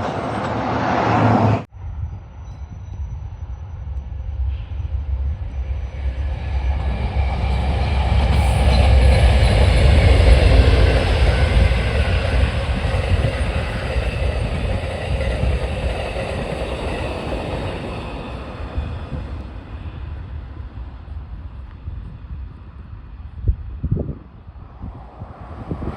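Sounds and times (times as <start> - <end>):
train passing on rails: 0.0 - 25.9.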